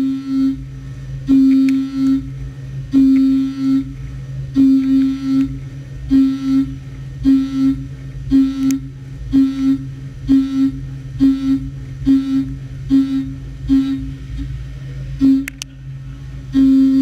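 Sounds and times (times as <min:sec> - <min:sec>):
mill cutting tones: 0:00.0 - 0:17.0
steady machine hum: 0:00.0 - 0:17.0.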